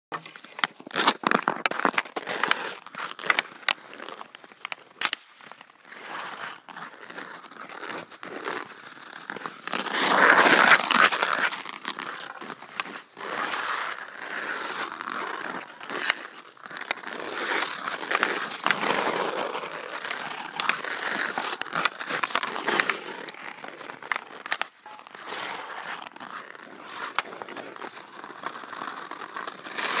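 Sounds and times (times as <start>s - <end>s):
ice skates scraping on ice: 0.2s - 30.0s.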